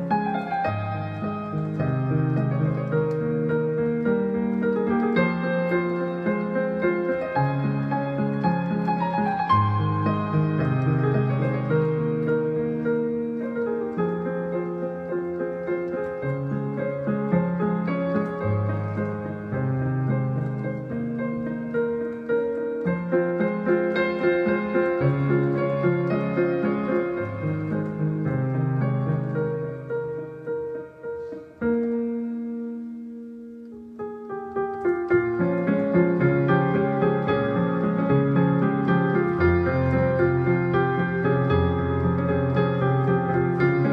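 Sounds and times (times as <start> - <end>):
piano piece: 0.0 - 43.9.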